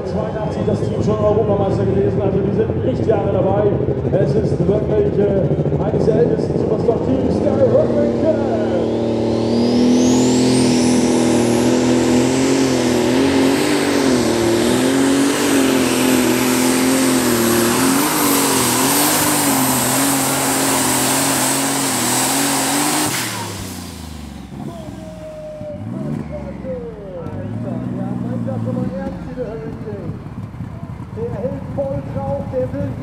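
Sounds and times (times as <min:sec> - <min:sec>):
high turbo whine: 0:00.0 - 0:33.0
tractor engine running flat out: 0:00.0 - 0:33.0.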